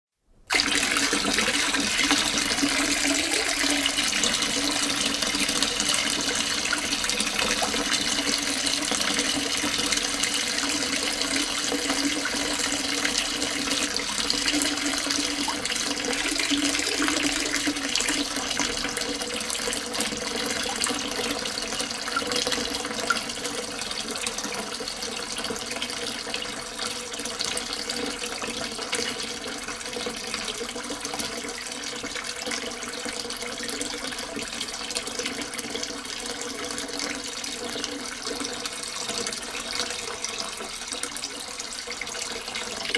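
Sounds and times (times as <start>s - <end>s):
water pouring into a sink: 0.5s - 42.9s.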